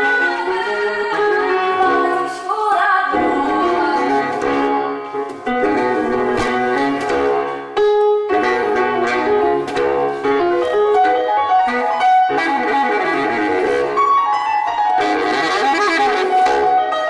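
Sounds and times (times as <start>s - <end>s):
piano: 0.0s - 17.0s
saxophone lead: 0.0s - 17.0s.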